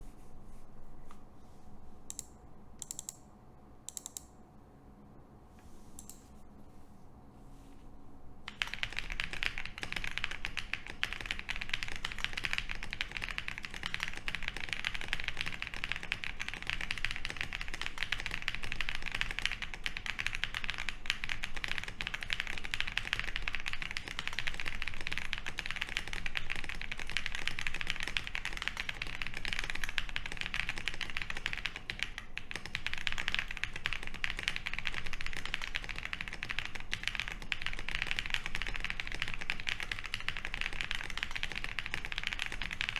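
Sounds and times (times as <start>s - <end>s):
mechanical keyboard typing: 2.1s - 3.2s, 3.9s - 4.3s, 8.5s - 42.9s.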